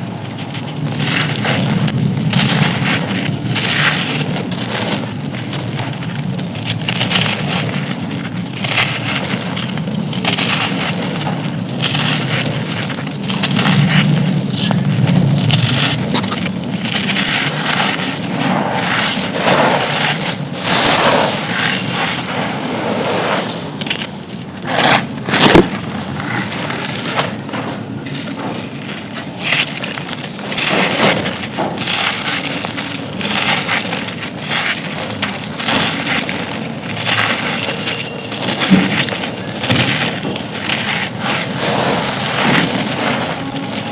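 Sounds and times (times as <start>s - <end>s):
concrete slabs crunching: 0.0s - 43.9s
concrete snapping: 0.0s - 43.9s.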